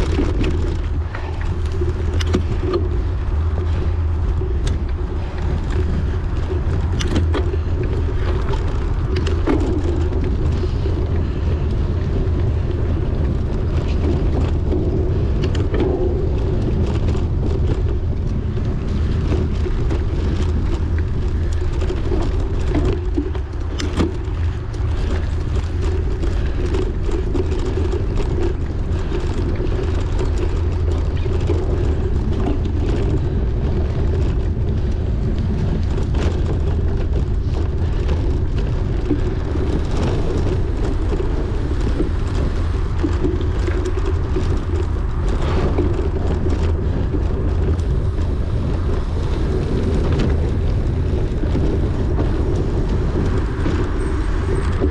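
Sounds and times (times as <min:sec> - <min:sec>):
bike knocking and rattling: 0:00.0 - 0:54.9
wind buffeting microphone: 0:00.0 - 0:54.9.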